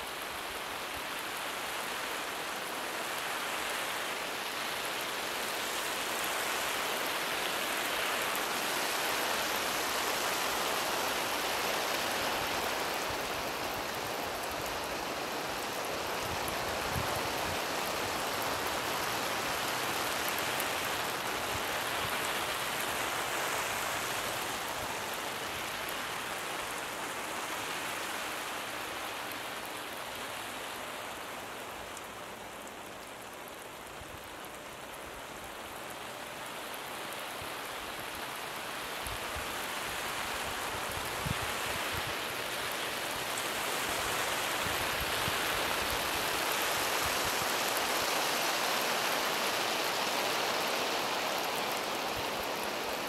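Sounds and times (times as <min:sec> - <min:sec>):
lawn sprinkler spraying water: 0:00.0 - 0:53.0.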